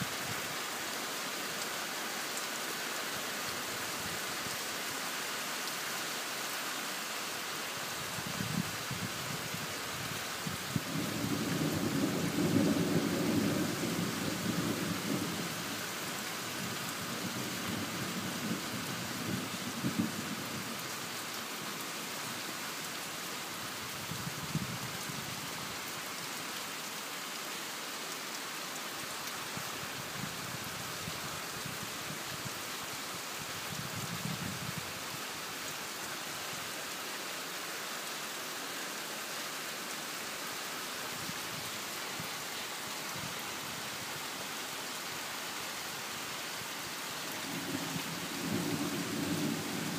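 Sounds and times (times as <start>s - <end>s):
heavy rain on foliage: 0.0s - 49.9s.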